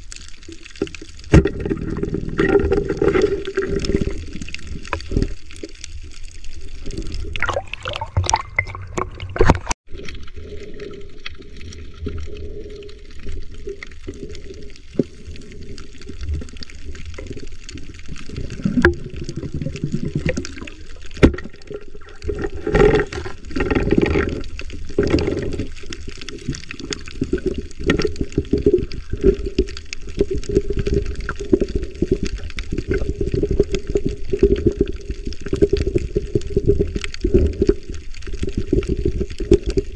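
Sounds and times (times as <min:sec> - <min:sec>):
bubbling: 0:00.0 - 0:39.9
underwater water rushing: 0:00.0 - 0:39.9.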